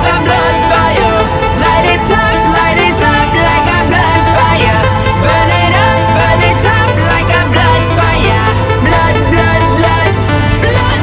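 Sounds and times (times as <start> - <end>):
electronic pop song: 0.0 - 11.0.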